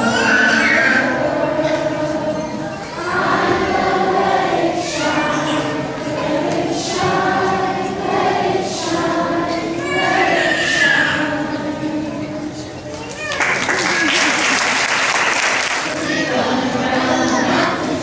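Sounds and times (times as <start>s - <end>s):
choir singing held notes: 0.0s - 12.8s, 14.0s - 18.0s.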